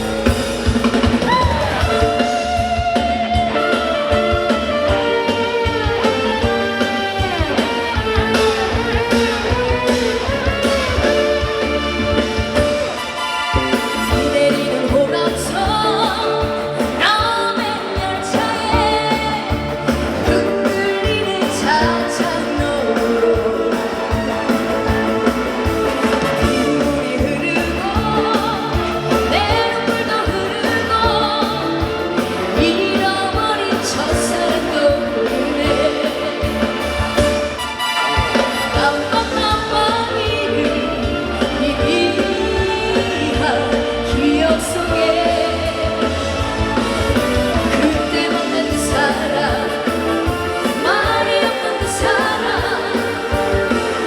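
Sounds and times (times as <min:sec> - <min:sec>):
woman singing: 0:00.0 - 0:08.1, 0:13.8 - 0:25.4, 0:26.0 - 0:37.2, 0:38.3 - 0:46.6, 0:47.6 - 0:54.0
backing track with electric guitar: 0:00.0 - 0:54.0.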